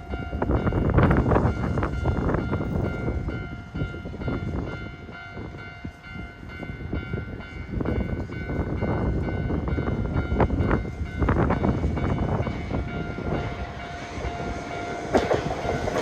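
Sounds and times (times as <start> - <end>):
crossing warning bell ringing: 0.0 - 16.0
train wheels rumbling and clacking: 0.0 - 16.0.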